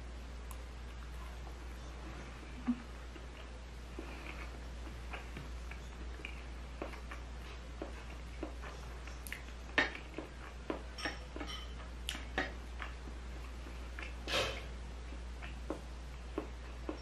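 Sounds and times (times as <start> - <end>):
person chewing: 2.6 - 17.0.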